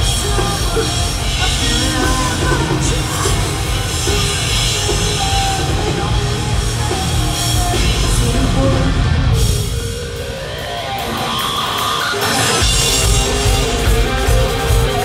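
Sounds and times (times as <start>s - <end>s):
live hard rock band: 0.0s - 15.0s.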